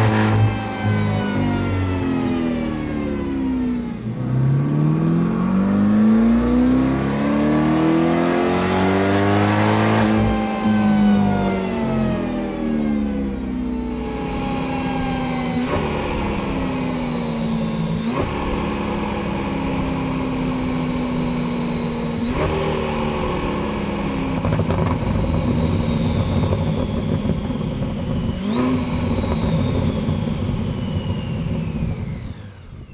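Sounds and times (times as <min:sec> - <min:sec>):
car engine on dyno: 0:00.0 - 0:32.9
supercharger whine: 0:00.0 - 0:32.9.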